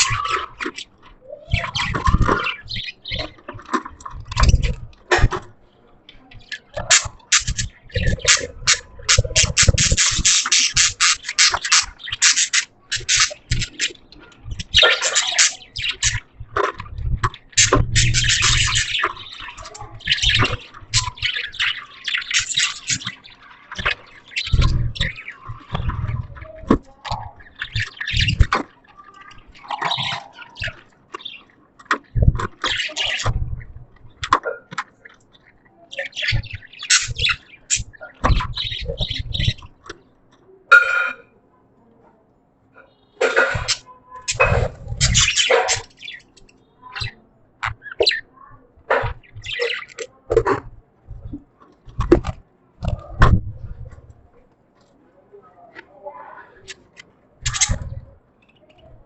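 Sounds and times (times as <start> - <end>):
budgies chattering: 0.0 - 41.3, 42.8 - 54.4, 55.0 - 59.0.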